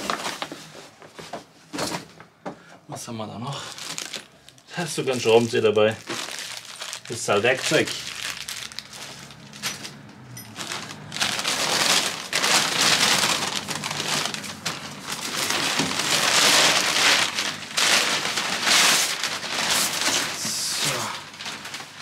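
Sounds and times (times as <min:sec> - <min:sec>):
packaging rustling and crumpling: 0:00.0 - 0:02.1, 0:03.6 - 0:22.0.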